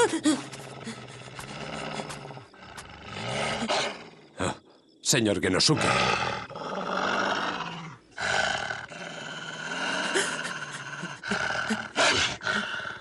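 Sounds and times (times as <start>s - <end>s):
dog growling and snarling: 0.0s - 4.4s, 5.7s - 13.0s.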